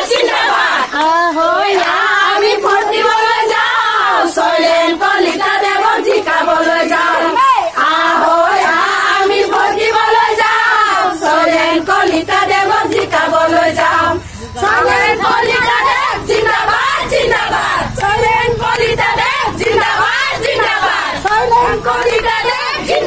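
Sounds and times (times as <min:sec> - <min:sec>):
women chanting in unison: 0:00.0 - 0:23.0.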